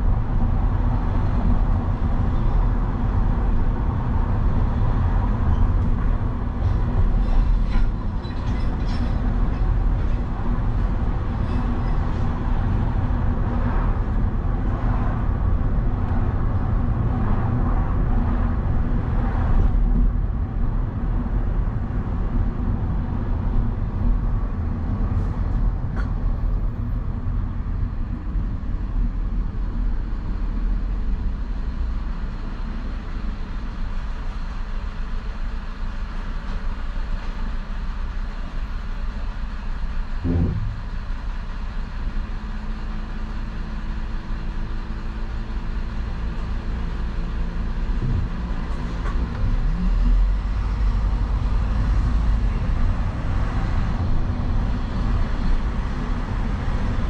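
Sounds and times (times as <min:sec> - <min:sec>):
traffic noise: 0:00.0 - 0:57.0
vehicle low rumble: 0:00.0 - 0:57.0.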